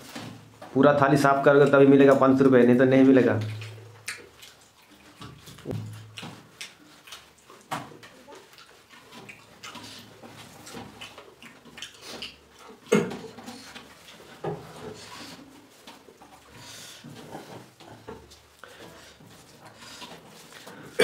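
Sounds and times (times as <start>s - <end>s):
wet chewing noises: 1.5s - 21.0s.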